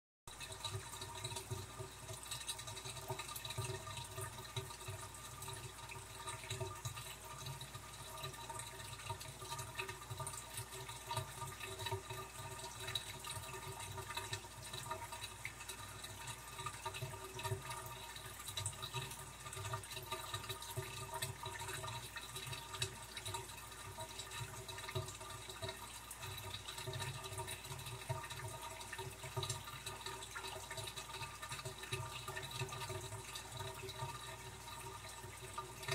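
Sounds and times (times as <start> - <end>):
trickle of moving water: 0.3 - 35.9.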